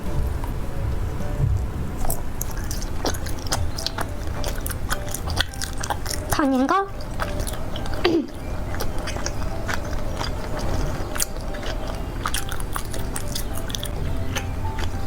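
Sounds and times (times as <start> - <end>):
biting and chewing: 0.0 - 15.0
steady low hum: 0.0 - 15.0
wet clicks and smacks: 1.6 - 15.0.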